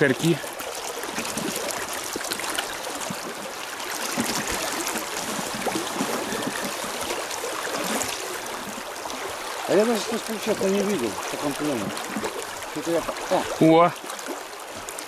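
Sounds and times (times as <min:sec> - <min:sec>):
river water rushing: 0:00.0 - 0:15.0
small water splashes: 0:00.0 - 0:15.0.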